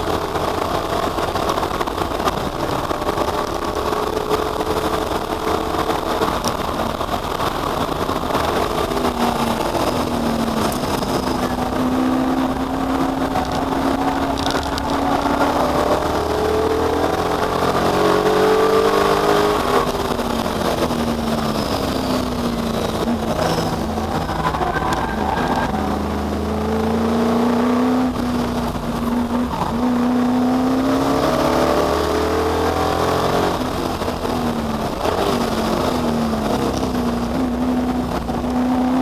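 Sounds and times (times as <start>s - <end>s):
racing car engines: 0.0s - 39.0s.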